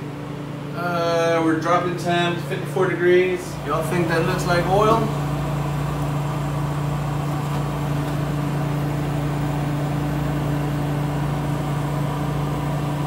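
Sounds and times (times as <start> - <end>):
evaporator fans humming: 0.0 - 13.0.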